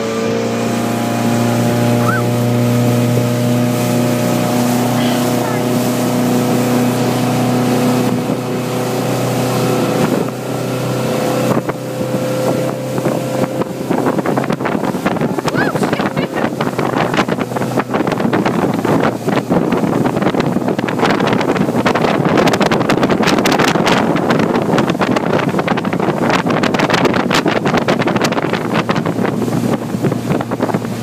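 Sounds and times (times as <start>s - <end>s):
motorboat engine humming: 0.0s - 31.0s
wind on microphone: 0.0s - 31.0s.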